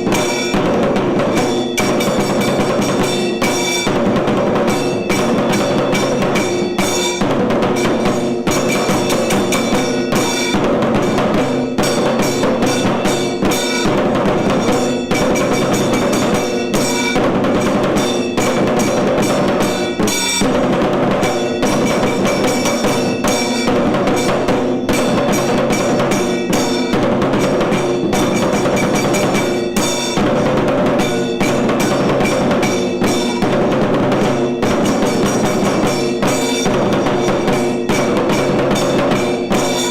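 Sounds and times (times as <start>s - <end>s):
fast drumming: 0.0s - 39.9s
steady ringing tones: 0.0s - 39.9s.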